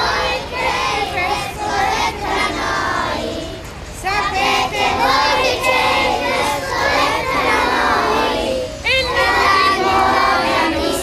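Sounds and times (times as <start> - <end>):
children singing: 0.0 - 11.0.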